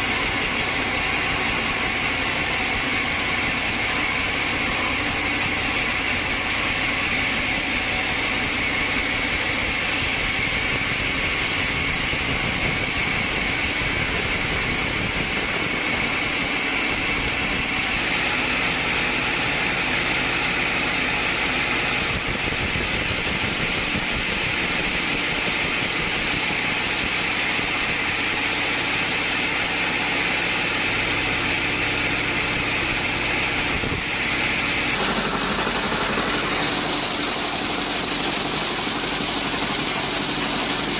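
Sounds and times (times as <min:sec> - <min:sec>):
high mechanical whine: 0:00.0 - 0:40.9
sawmill machinery drone: 0:00.0 - 0:40.9.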